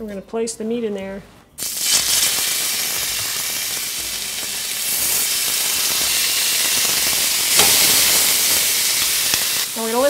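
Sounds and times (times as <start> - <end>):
meat sizzling in oil: 1.6 - 10.0.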